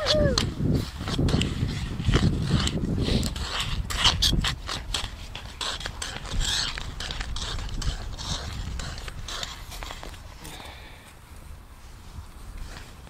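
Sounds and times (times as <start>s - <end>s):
skate blades scraping on ice: 0.0s - 10.6s.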